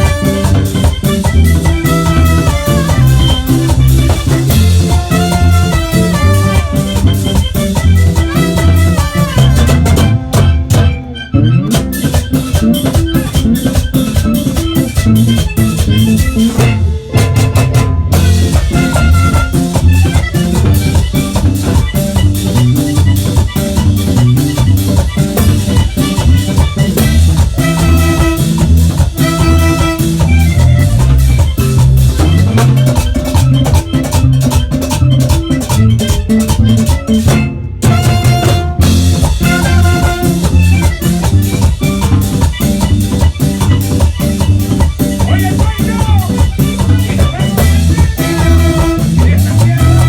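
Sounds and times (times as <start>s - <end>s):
bass and drums: 0.0s - 50.0s
button accordion melody: 0.0s - 50.0s.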